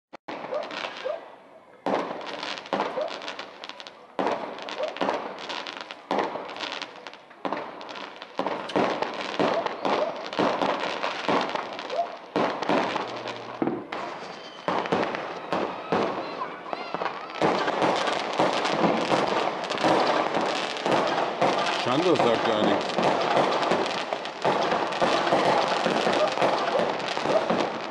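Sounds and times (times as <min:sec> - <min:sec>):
fireworks bangs and crackles: 0:00.3 - 0:27.9.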